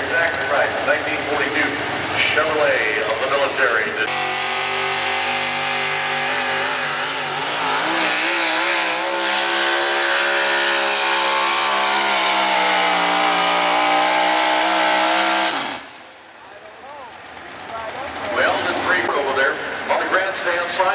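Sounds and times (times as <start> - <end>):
truck engine at full throttle: 0.0 - 20.9.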